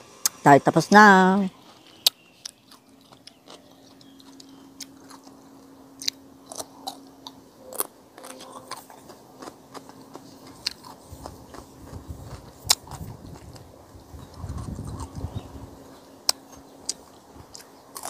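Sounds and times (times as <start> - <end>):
faint steady hum: 0.0 - 18.0
chewing with mouth clicks: 1.6 - 15.6, 16.2 - 18.0.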